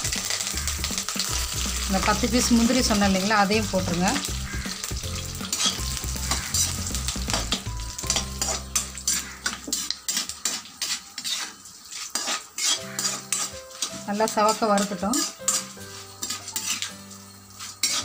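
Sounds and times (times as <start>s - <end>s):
food sizzling in hot oil: 0.0s - 18.0s
metal ladle scraping a pan: 0.2s - 18.0s.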